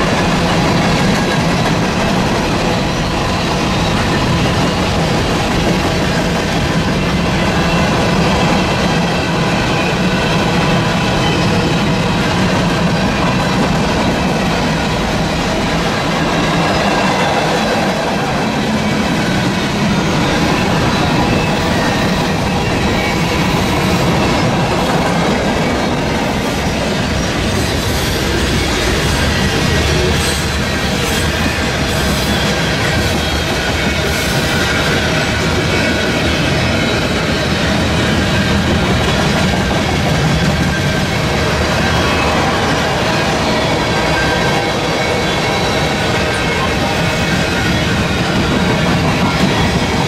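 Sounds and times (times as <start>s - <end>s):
freight train wheels rumbling and clattering: 0.0s - 50.0s.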